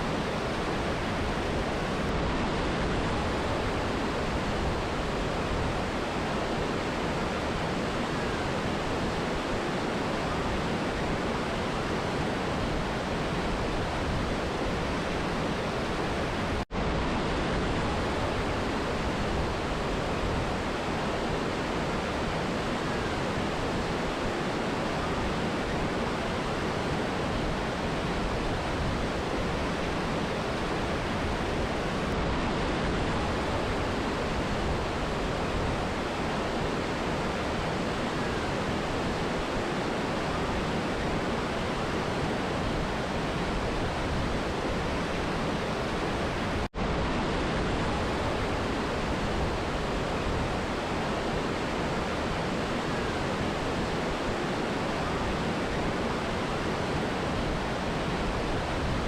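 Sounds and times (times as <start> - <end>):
river and waterfall rushing: 0.0 - 59.0.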